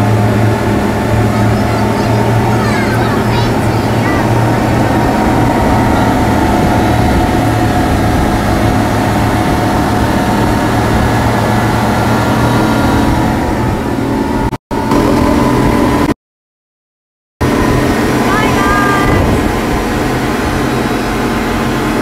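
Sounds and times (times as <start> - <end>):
outboard motors running: 0.0 - 16.1, 17.4 - 22.0
water and wind rushing: 0.0 - 16.1, 17.4 - 22.0.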